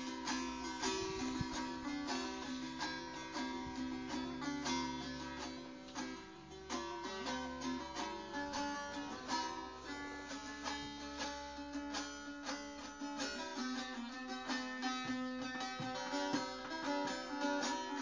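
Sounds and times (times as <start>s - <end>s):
long-necked lute folk melody: 0.0s - 18.0s.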